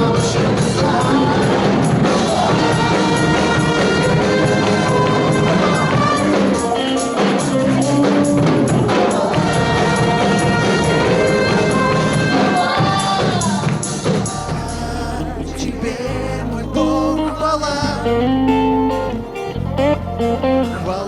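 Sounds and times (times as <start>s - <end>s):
church band worship music: 0.0s - 21.0s.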